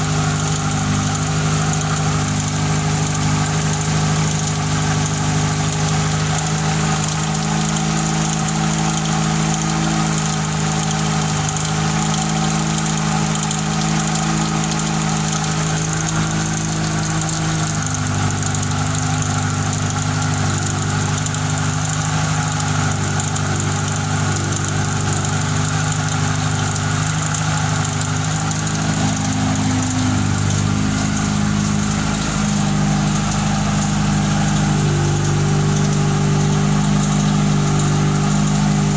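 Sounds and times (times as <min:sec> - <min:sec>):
car engine idling: 0:00.0 - 0:38.9
loud exhaust: 0:00.0 - 0:38.9.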